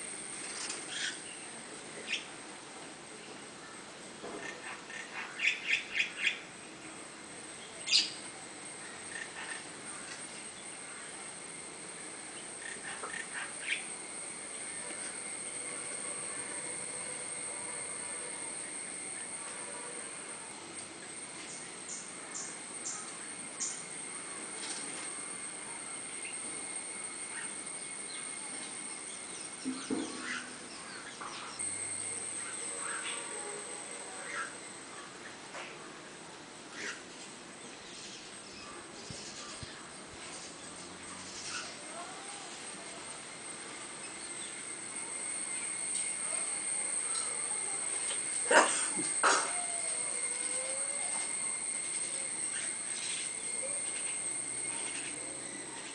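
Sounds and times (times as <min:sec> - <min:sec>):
steady high-pitched whine: 0:00.0 - 0:55.9.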